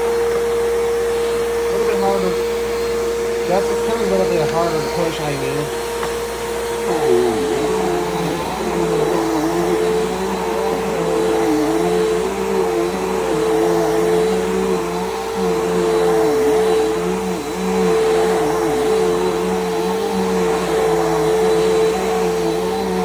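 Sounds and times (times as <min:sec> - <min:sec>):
upright vacuum running on carpet: 0:00.0 - 0:23.0.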